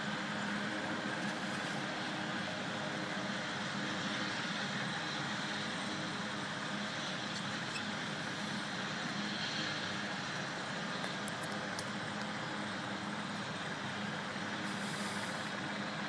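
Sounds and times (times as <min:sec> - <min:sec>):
radial aircraft engine idling: 0:00.0 - 0:16.0.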